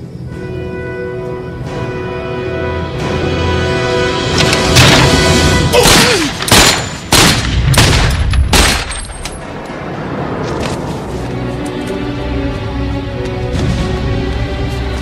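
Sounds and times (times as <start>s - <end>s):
dramatic film score music: 0.0s - 15.0s.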